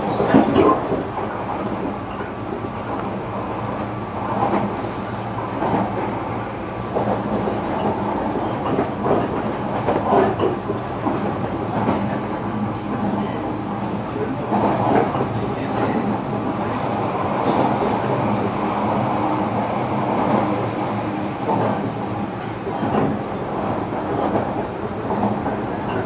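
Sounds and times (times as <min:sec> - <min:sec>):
train clattering: 0:00.0 - 0:26.0
train wheels rumbling on rail: 0:00.0 - 0:26.0.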